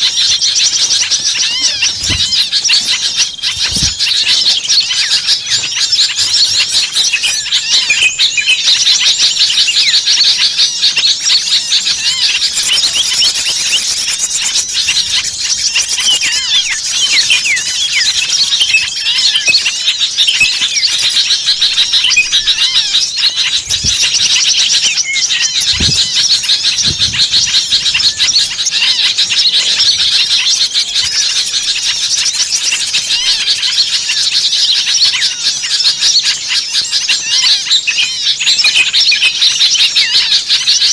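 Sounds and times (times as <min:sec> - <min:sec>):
songbirds chirping chorus: 0:00.0 - 0:40.9.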